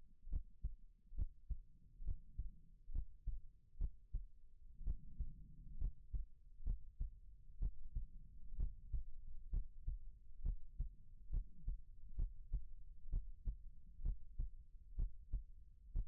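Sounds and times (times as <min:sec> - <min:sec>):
low steady rumble: 0:00.0 - 0:16.0
heartbeat thumps: 0:00.2 - 0:16.0.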